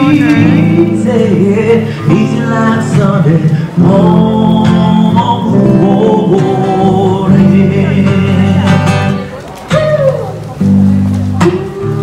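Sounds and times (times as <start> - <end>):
person singing: 0.0 - 10.4
acoustic guitar: 0.0 - 12.0.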